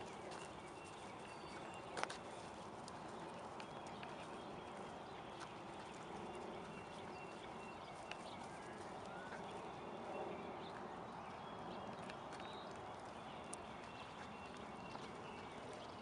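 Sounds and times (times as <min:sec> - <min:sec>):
footsteps on asphalt: 0:00.0 - 0:16.0.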